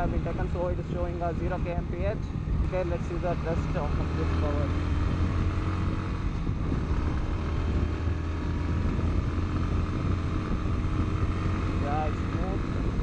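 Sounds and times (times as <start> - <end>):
motorcycle engine under throttle: 0.0 - 13.0
road noise: 0.0 - 13.0
wind noise: 0.0 - 13.0.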